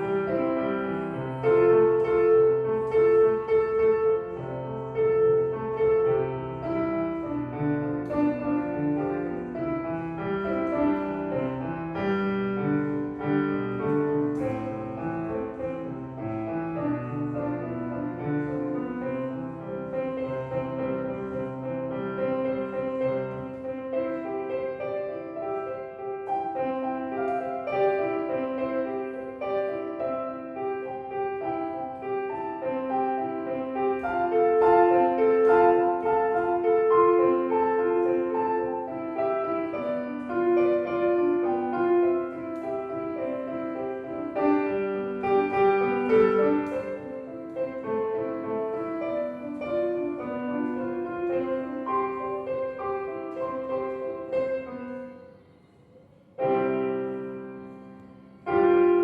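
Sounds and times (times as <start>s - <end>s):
piano melody over chords: 0.0s - 59.0s.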